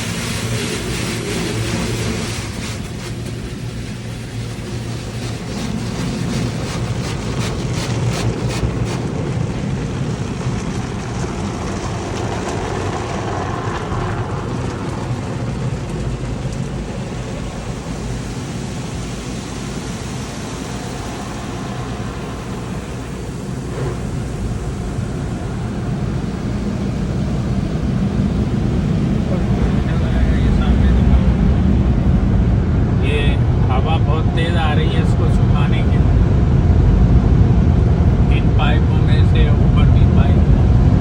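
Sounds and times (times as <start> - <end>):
car wash jets and blowers rushing: 0.0 - 41.0.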